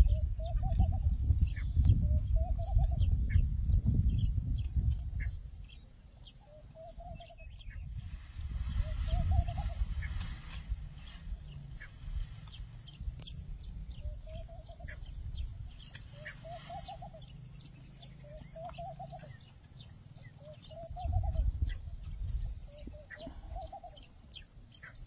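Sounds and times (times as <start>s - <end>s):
wind rumble on microphone: 0.0s - 25.0s.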